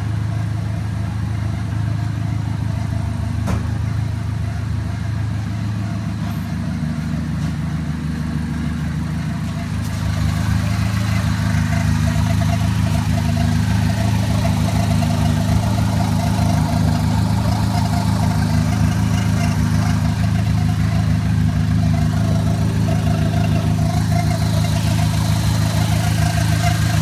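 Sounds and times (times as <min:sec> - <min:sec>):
car engine humming: 0:00.0 - 0:27.0.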